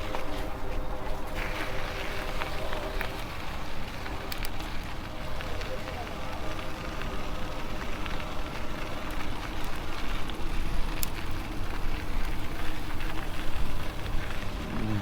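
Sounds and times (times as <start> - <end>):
bike tyre noise on trail: 0.0 - 15.0
faint steady whine: 0.0 - 15.0
wind rumble on microphone: 0.0 - 15.0.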